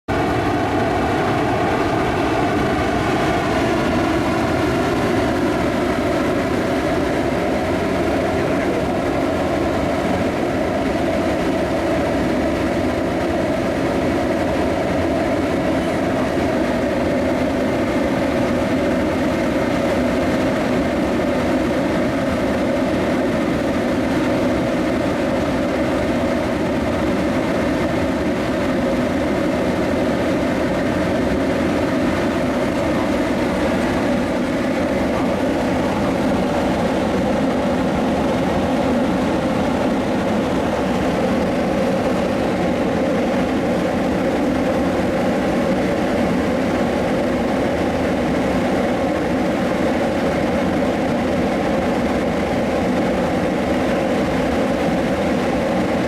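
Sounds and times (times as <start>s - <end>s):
furnace fire and blower rushing: 0.1s - 56.0s.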